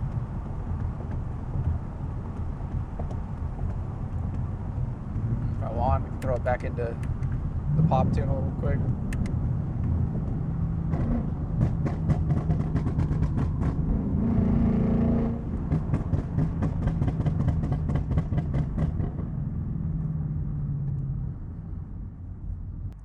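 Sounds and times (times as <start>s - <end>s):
car exhaust crackling and popping: 0.0s - 14.5s, 15.2s - 23.0s
car engine rumbling: 0.0s - 23.0s.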